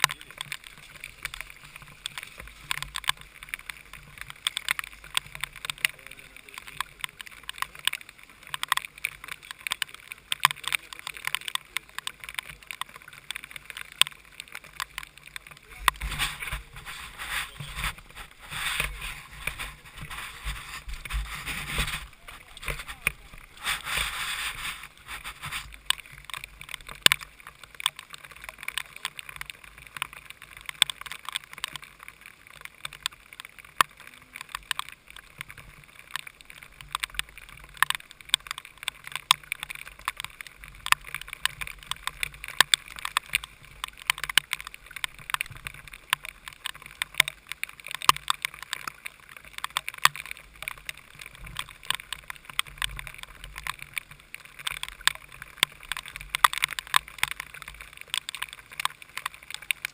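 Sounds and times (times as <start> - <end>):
rain hitting camera housing: 0.0 - 59.9.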